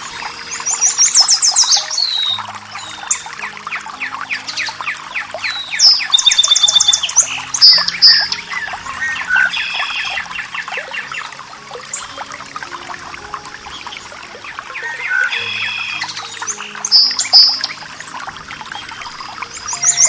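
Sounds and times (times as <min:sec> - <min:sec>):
birds singing: 0:00.0 - 0:20.0
running water: 0:00.0 - 0:20.0.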